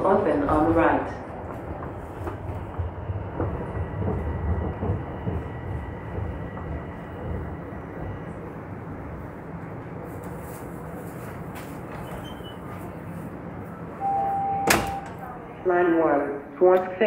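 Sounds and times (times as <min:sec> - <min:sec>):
subway train rumbling to a stop: 0:00.0 - 0:17.0.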